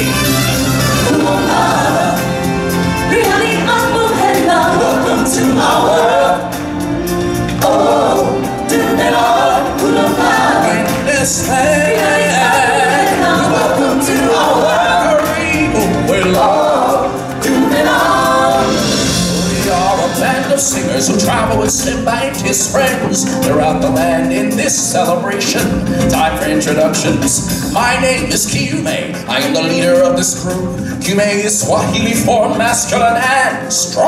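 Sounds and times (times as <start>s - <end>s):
instrumental backing music: 0.0s - 34.0s
group of voices singing: 0.8s - 33.0s.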